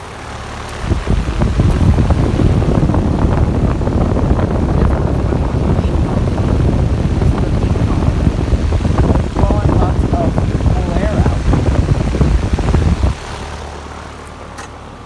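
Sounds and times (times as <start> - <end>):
wind noise from fan on microphone: 0.0 - 15.0.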